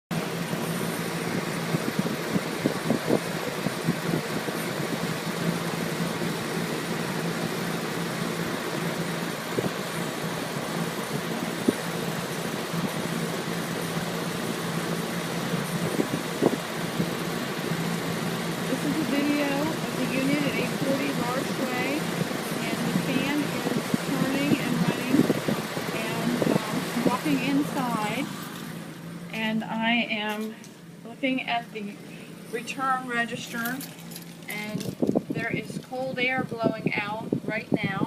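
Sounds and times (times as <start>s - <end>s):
air conditioner air rush and hum: 0.1s - 38.0s.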